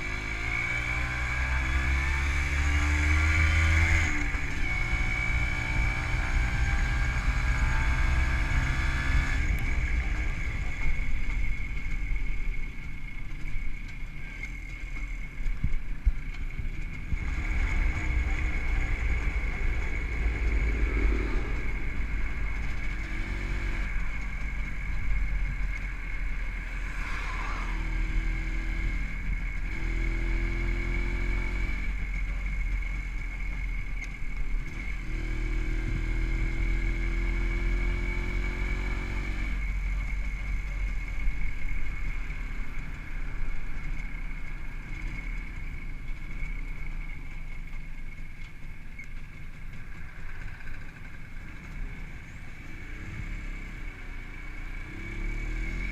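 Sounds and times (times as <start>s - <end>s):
motorcycle engine accelerating: 0.0s - 55.9s
wind rumble on microphone: 0.0s - 55.9s.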